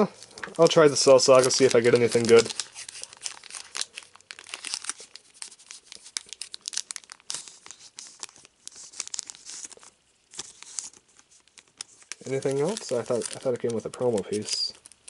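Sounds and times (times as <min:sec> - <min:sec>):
foil wrapper tearing and crinkling: 0:00.2 - 0:15.0.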